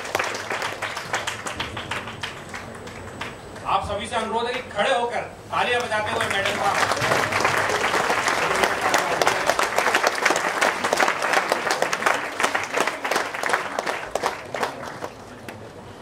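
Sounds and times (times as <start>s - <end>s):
crowd applauding: 0.0s - 3.8s, 5.7s - 15.8s.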